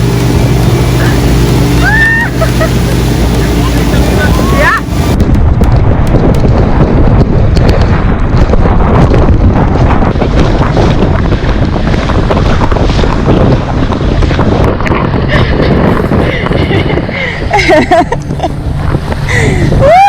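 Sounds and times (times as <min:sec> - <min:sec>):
boat engine: 0:00.0 - 0:20.0
water noise: 0:00.0 - 0:20.0
wind buffeting microphone: 0:00.0 - 0:20.0.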